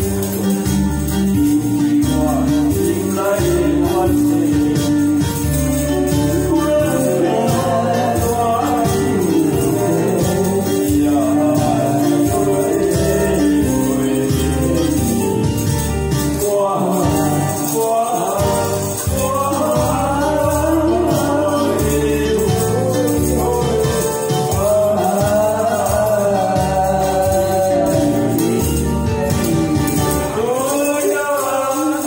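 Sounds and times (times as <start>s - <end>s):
jingling hand percussion: 0.0s - 32.0s
karaoke backing track: 0.0s - 32.0s
man singing into a microphone: 0.0s - 32.0s.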